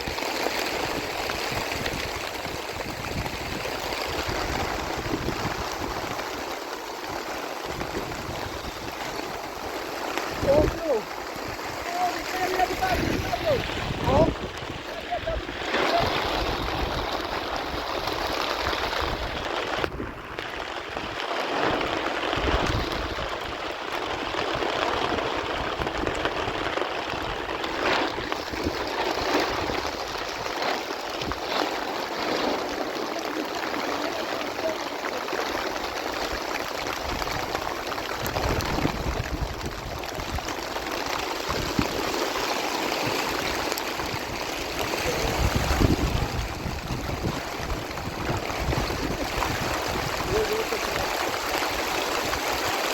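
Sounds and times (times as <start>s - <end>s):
heavy rain falling: 0.0s - 52.9s
running water: 0.0s - 52.9s.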